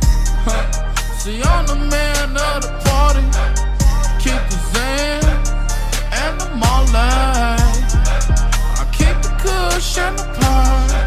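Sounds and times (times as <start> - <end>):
deep sustained bass: 0.0 - 11.0
gliding sung vocals: 0.0 - 11.0
sharp bass hit: 0.0 - 11.0.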